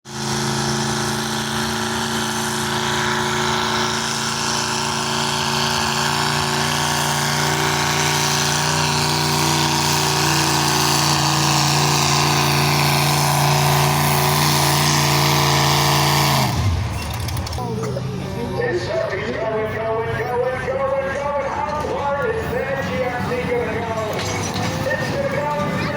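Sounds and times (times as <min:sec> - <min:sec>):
truck engine revving high: 0:00.1 - 0:25.9.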